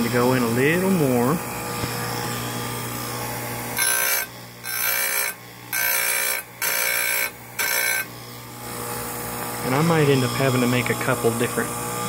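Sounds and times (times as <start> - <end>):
grinder motor hum: 0.0 - 12.0
high-pitched grinding whine: 0.0 - 12.0.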